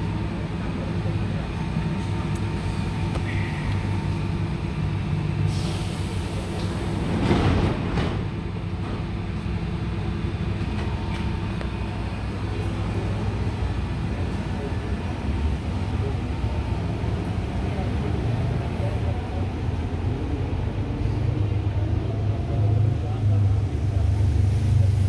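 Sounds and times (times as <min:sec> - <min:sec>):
electric train equipment humming: 0:00.0 - 0:07.1, 0:08.3 - 0:22.4.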